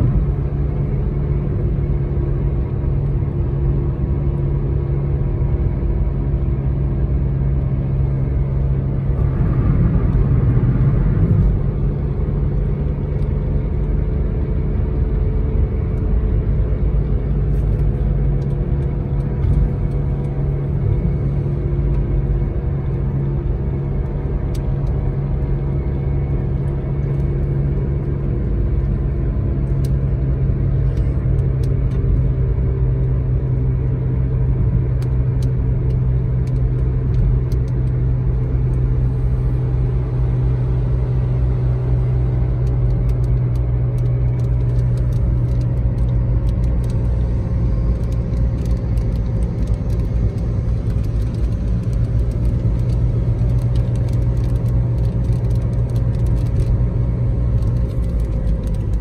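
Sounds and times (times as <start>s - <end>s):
car road noise inside cabin: 0.0s - 59.0s.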